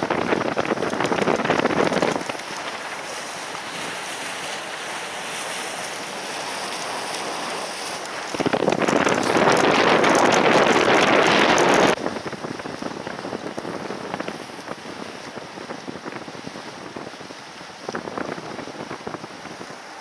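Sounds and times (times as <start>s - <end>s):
river water rushing: 0.0s - 20.0s
rush of wind: 0.0s - 20.0s
wind buffeting microphone: 0.0s - 20.0s.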